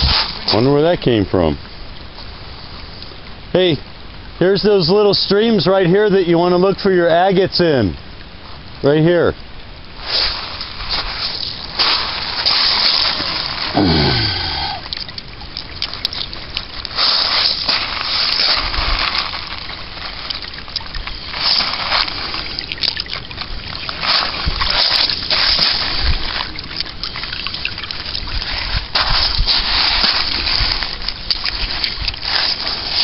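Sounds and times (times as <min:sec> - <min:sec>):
water trickling over sand and gravel: 0:00.0 - 0:33.0.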